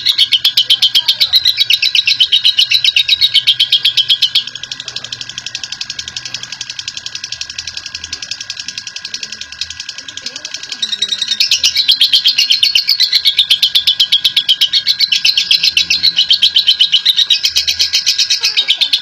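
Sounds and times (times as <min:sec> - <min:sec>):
lovebird chattering: 0:00.0 - 0:19.0.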